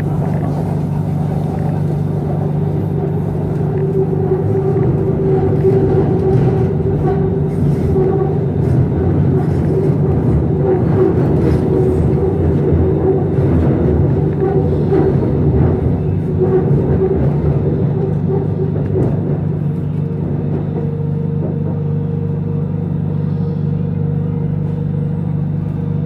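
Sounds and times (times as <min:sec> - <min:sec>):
constant low hum: 0:00.0 - 0:26.0
train car rumble: 0:00.0 - 0:26.0.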